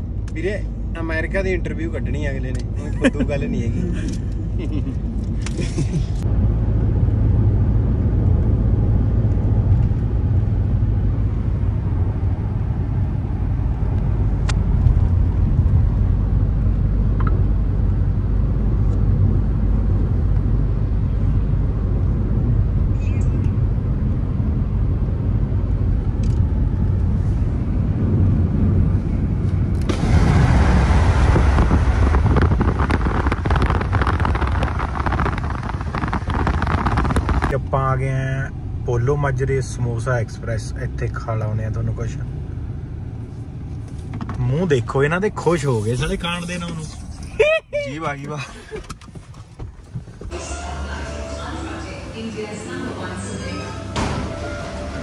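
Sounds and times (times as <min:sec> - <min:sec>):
wind and road noise rush: 0:00.0 - 0:50.5
car tyre and engine rumble: 0:00.0 - 0:53.3.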